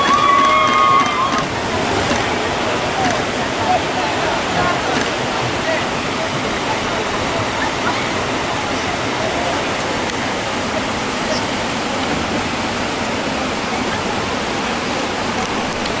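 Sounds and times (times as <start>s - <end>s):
river white water rushing: 0.0s - 16.0s.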